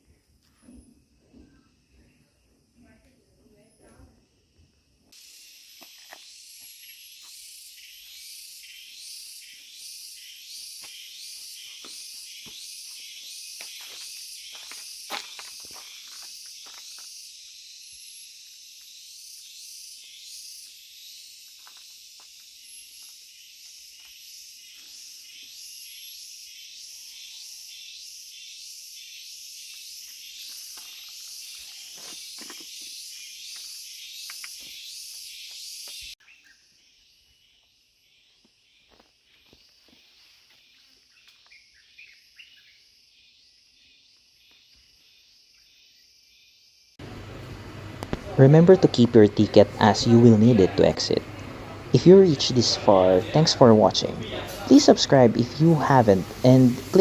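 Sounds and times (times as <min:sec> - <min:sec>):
pulsing insect chorus: 0:00.0 - 0:57.0.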